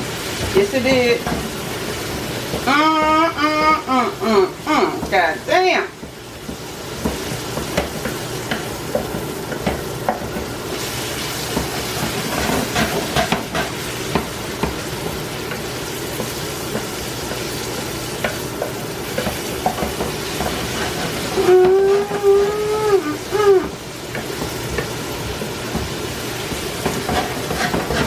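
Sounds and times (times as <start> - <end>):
vegetables sizzling in butter: 0.0 - 28.0
spoon scraping a pan: 0.3 - 14.8, 15.5 - 23.1, 24.1 - 28.0.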